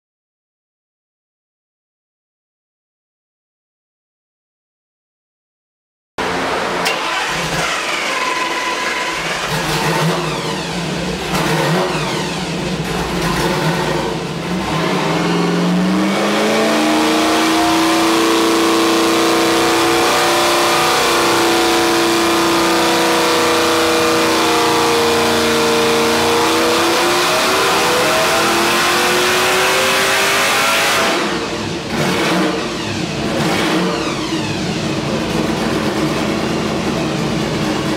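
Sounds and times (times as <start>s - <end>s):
supercharged engine revving: 6.2s - 37.9s.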